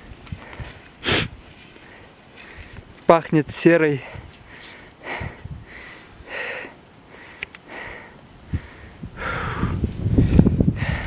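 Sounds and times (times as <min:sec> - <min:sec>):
person breathing hard: 0:00.4 - 0:02.8, 0:04.0 - 0:11.0.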